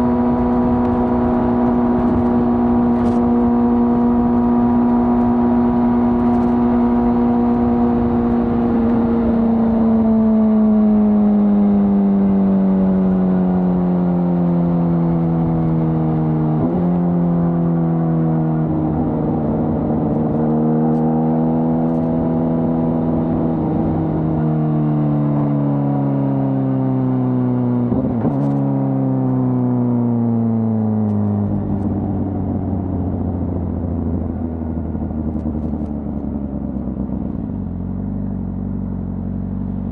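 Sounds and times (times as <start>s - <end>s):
motorcycle engine decelerating: 0.0s - 39.9s.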